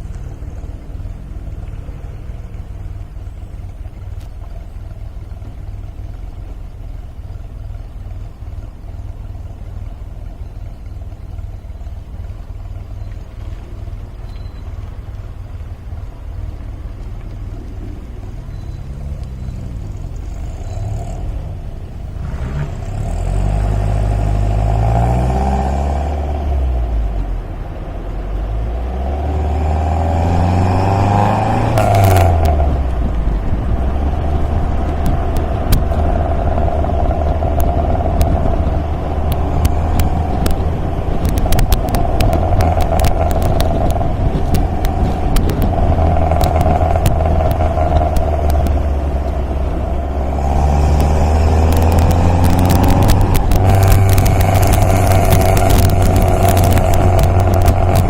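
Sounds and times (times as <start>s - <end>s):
light ticks: 0.0s - 21.2s, 30.2s - 58.0s
car engine revving and cruising: 0.0s - 58.0s.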